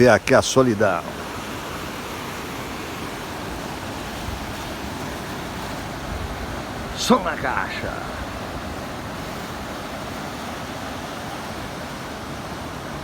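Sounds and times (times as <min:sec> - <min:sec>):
ocean surf washing on beach: 0:00.0 - 0:13.0
wind: 0:00.0 - 0:13.0.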